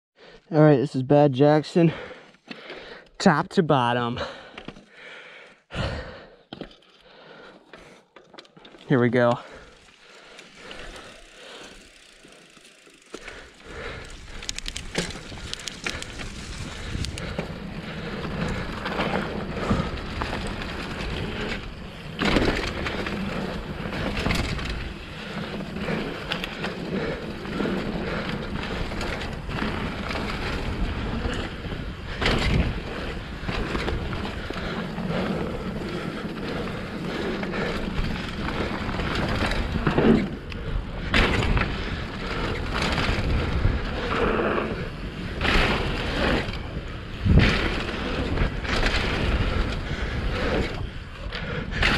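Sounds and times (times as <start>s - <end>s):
bike tyres rolling on dirt: 4.2s - 51.9s
bike rattling: 6.5s - 51.9s.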